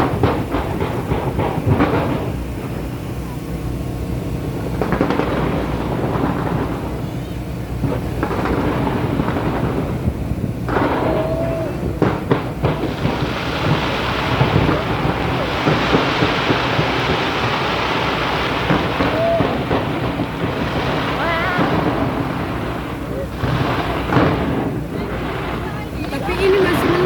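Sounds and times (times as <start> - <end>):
crackling hiss: 0.0 - 27.0
rumble of fireworks booms: 0.0 - 27.0
sharp fireworks cracks: 0.0 - 27.0.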